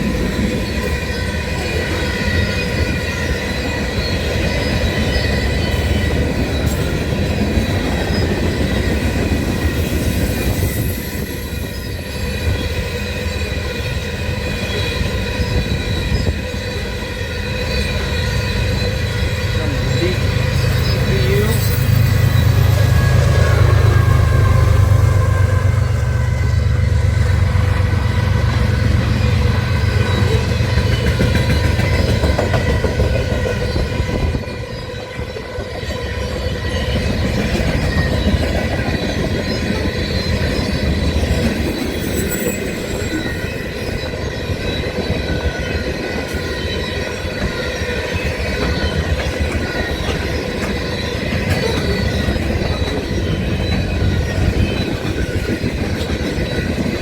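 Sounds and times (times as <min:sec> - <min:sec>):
freight train wheels on rails: 0:00.0 - 0:57.0
train wheels squealing: 0:00.0 - 0:57.0.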